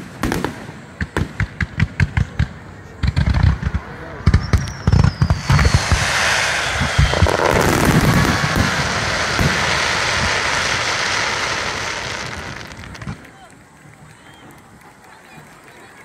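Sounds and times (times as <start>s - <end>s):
fireworks booms: 0.0s - 13.3s
fireworks crackling: 0.0s - 16.0s.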